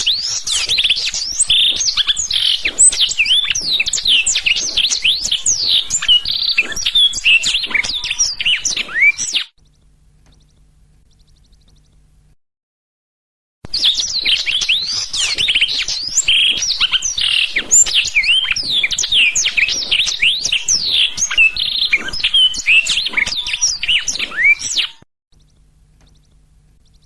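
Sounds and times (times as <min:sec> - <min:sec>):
canary singing: 0:00.0 - 0:12.3, 0:13.7 - 0:27.0.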